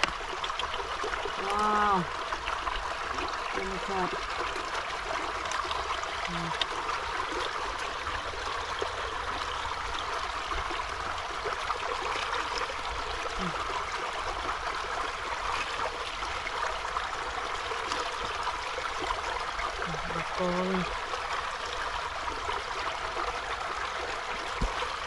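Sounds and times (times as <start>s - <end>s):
running water rushing: 0.0s - 25.0s.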